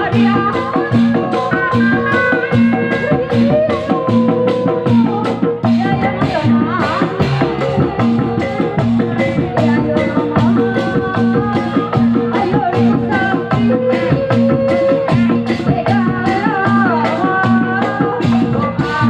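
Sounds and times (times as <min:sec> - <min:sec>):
drum and percussion beat: 0:00.0 - 0:19.0.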